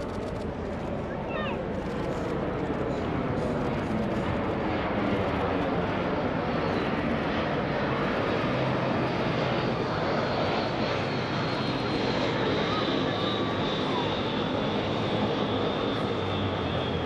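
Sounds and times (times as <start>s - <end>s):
jet engines rushing past: 0.0s - 17.0s.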